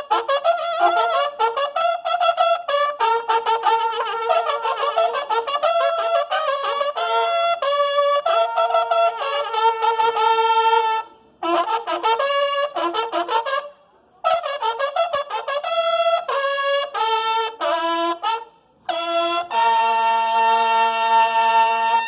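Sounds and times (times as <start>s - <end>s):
bugles playing in harmony: 0.0s - 22.0s.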